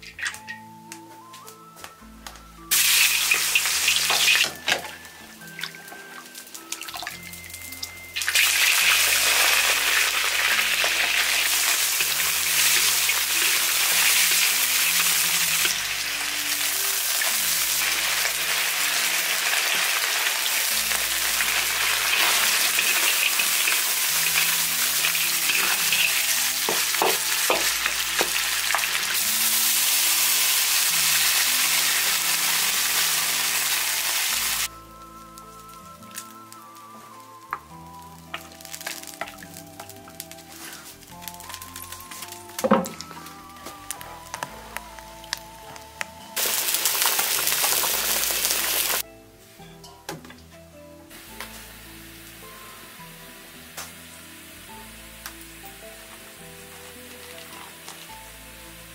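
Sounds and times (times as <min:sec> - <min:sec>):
background music: 0:00.0 - 0:58.9
meat sizzling in hot oil: 0:02.6 - 0:34.7, 0:35.4 - 0:45.6, 0:46.3 - 0:49.0, 0:51.1 - 0:58.9.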